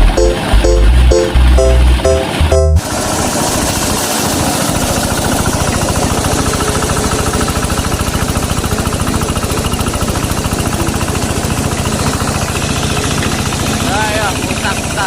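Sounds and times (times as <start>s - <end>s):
corn sheller machine noise: 0.0s - 15.0s
diesel engine firing: 0.0s - 15.0s.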